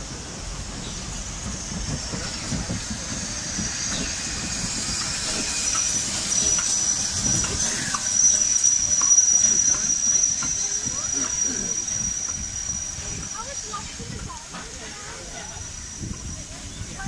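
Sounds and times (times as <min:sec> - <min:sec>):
rumble of locomotive wheels: 0:00.0 - 0:17.0
steam locomotive hissing steam: 0:00.0 - 0:17.0.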